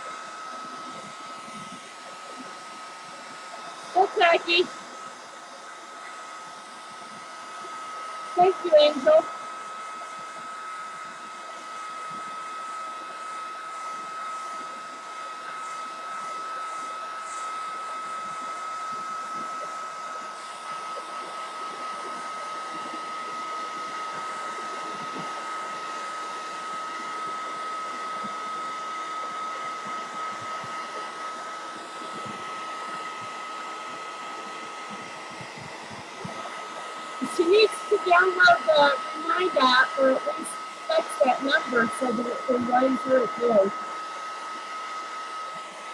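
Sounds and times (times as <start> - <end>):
hot-air dryer blowing with whine: 0.0 - 45.9.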